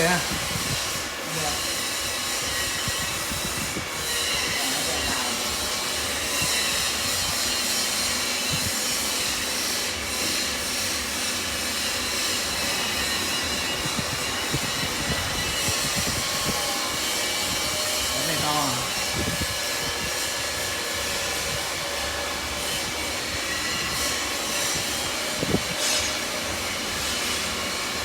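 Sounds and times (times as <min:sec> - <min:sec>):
granite cutting machine running: 0:00.0 - 0:28.0.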